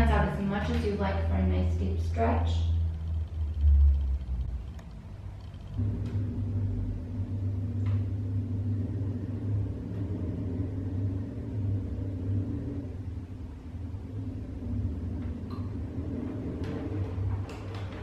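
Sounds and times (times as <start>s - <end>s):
low mechanical rumble with hum: 0.0s - 18.0s.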